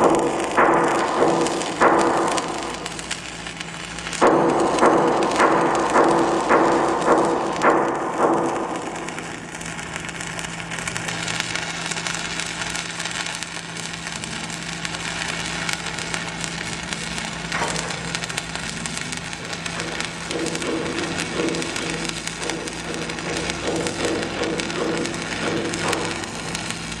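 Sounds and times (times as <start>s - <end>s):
welding arc crackling and sizzling: 0.0s - 27.0s.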